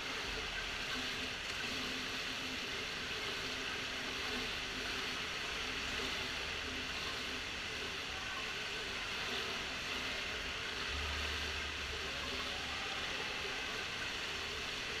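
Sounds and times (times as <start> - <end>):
pool water moving: 0.0 - 15.0.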